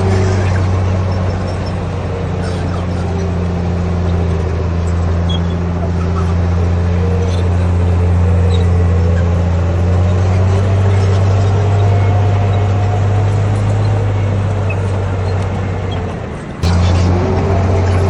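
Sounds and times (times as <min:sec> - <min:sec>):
diesel engine running under load: 0:00.0 - 0:18.0.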